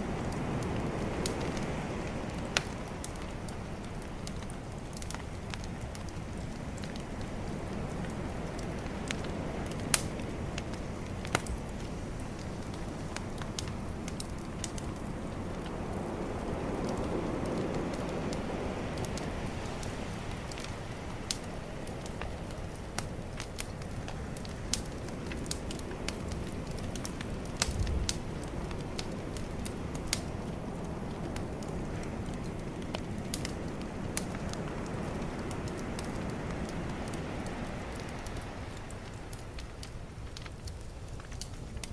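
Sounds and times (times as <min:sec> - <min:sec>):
calm ocean waves: 0:00.0 - 0:40.5
bonfire crackling and popping: 0:00.0 - 0:41.9.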